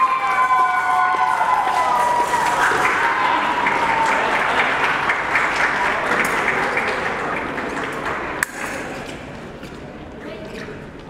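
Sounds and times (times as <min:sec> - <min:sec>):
spectators applauding: 0:00.0 - 0:08.9.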